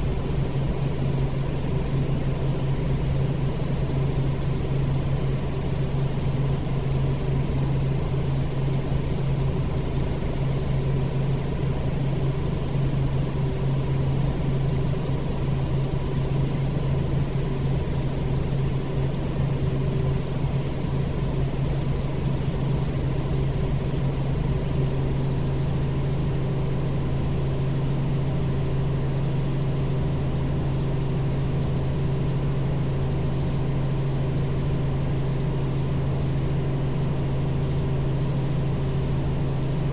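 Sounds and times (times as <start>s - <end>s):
helicopter rotors and engine drone: 0.0s - 39.9s.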